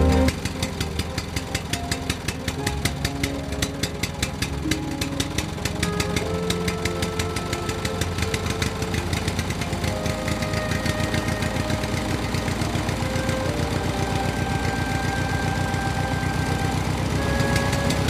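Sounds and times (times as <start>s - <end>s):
small engine chugging: 0.0s - 18.0s.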